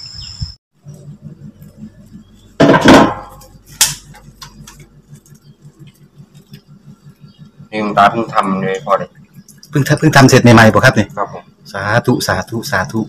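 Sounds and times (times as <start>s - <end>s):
low pulsing hum: 0.4s - 13.0s.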